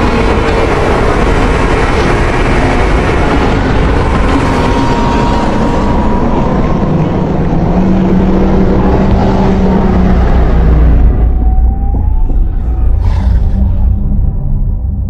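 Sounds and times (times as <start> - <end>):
low hum: 0.0 - 15.0
rumbling monster roar: 0.0 - 15.0.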